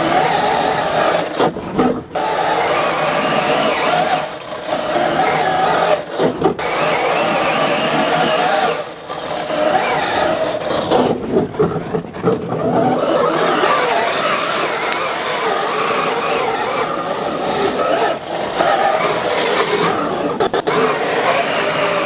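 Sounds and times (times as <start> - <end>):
tyres sliding on dirt: 0.0 - 11.2, 12.2 - 22.0
electric motor whine: 0.0 - 11.8, 12.4 - 22.0.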